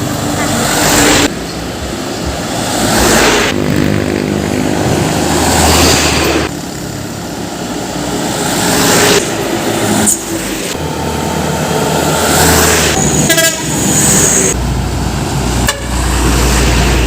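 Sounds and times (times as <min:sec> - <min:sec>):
heavy trucks driving past: 0:00.0 - 0:17.0
low engine drone: 0:00.0 - 0:17.0.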